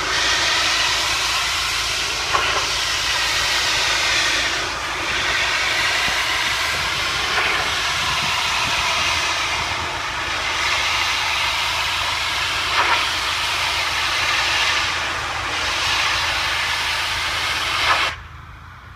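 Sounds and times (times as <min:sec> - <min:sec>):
pressure washer spraying: 0:00.0 - 0:18.2.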